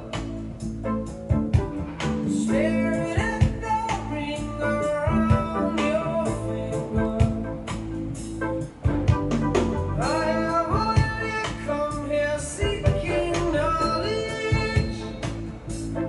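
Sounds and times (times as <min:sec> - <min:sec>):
distorted song with singing voice: 0:00.0 - 0:16.0.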